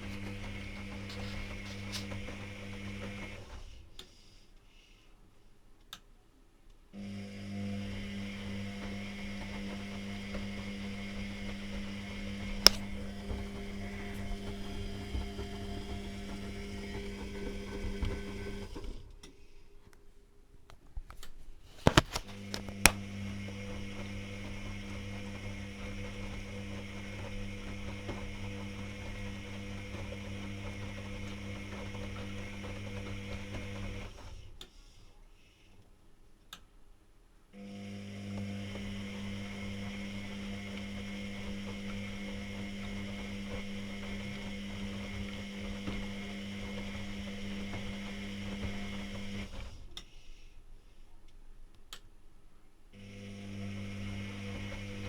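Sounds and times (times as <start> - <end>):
washing machine motor hum: 0.0 - 4.0, 7.0 - 19.8, 21.7 - 34.6, 37.6 - 50.0, 53.0 - 55.0.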